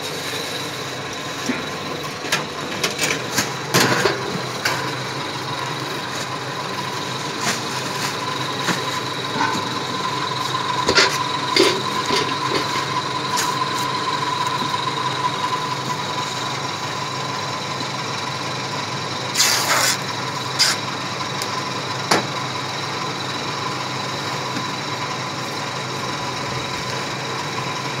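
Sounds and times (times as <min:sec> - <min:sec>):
mechanical hum with high whine: 0:00.0 - 0:28.0.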